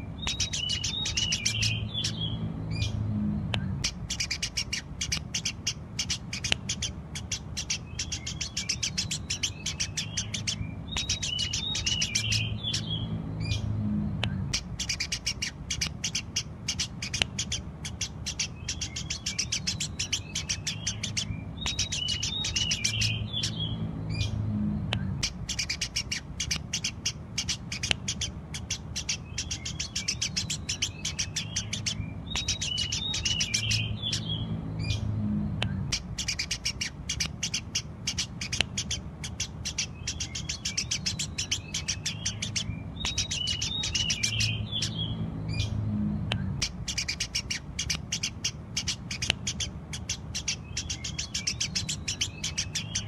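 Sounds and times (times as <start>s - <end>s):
low background rumble: 0.0s - 53.0s
sparrows chirping: 0.0s - 53.0s.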